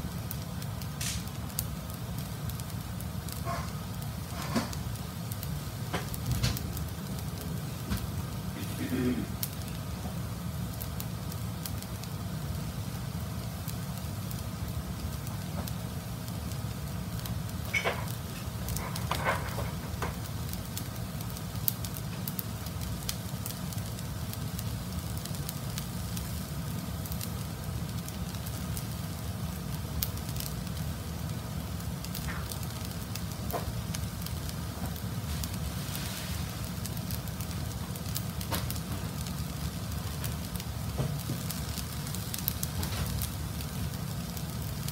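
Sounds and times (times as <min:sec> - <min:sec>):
food sizzling in a frying pan: 0:00.0 - 0:44.9
gas burner rush: 0:00.0 - 0:44.9.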